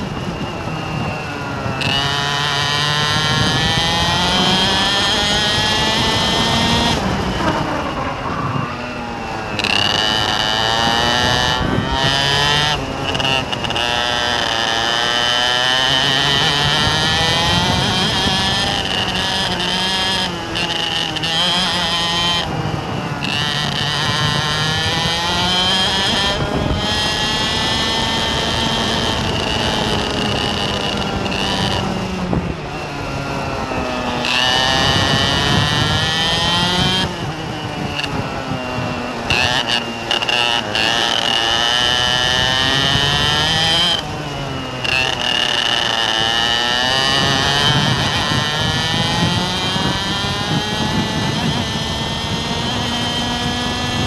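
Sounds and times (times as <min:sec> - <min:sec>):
vehicle engine revving: 0:00.0 - 0:54.0.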